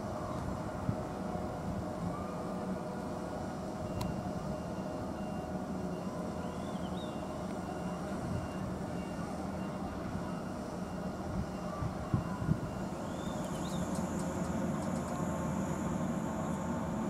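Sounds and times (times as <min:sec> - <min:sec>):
parked electric train humming: 0:00.0 - 0:17.0.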